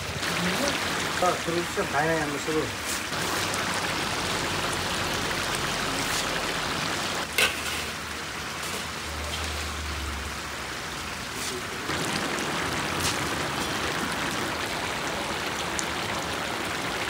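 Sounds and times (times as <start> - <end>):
broth boiling with bubbling hiss: 0.0 - 17.0.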